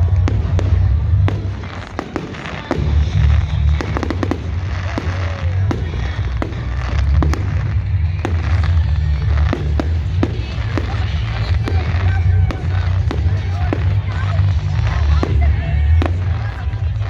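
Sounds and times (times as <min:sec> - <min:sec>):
fireworks bangs and crackles: 0:00.0 - 0:17.0
low rumble: 0:02.7 - 0:17.0.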